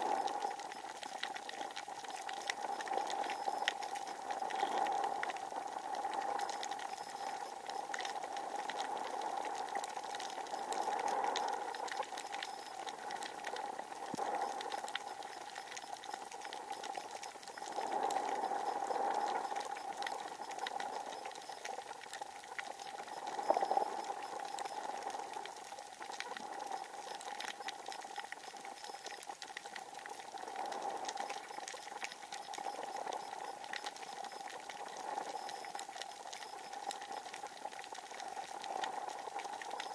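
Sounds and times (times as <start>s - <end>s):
crackle of tiny underwater clicks: 0.0s - 39.9s
steady underwater hum: 0.0s - 39.9s.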